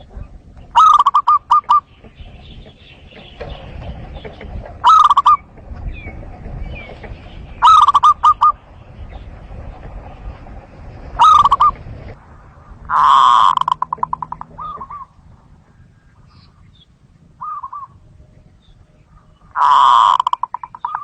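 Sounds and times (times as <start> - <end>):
dove cooing: 0.0 - 9.3, 11.2 - 11.9, 12.8 - 16.7, 17.4 - 21.0
small birds chirping: 0.0 - 10.4, 12.9 - 21.0.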